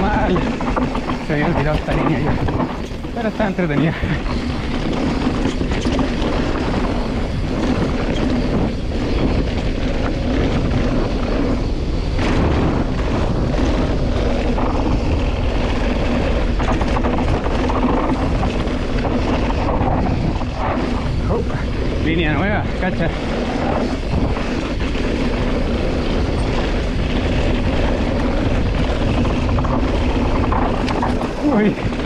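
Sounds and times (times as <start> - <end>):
bike rattling over loose rock: 0.0 - 32.0
wind rushing over microphone: 0.0 - 32.0.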